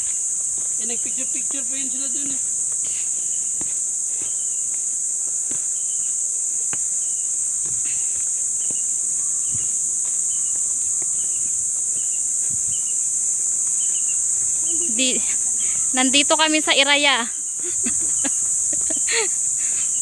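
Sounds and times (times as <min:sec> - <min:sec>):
footsteps on dirt trail: 0:00.0 - 0:20.0
insects droning: 0:00.0 - 0:20.0.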